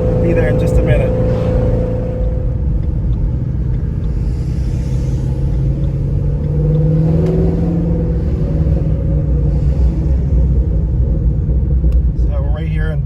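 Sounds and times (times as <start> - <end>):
car engine running: 0.0 - 13.0
road rumble: 0.0 - 13.0.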